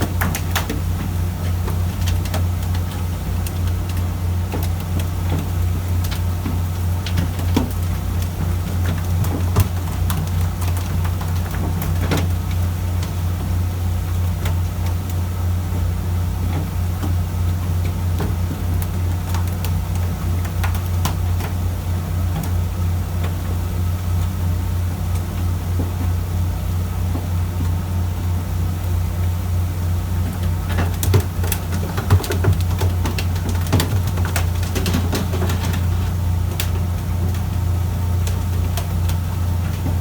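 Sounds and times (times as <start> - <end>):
boat diesel engine droning: 0.0 - 40.0.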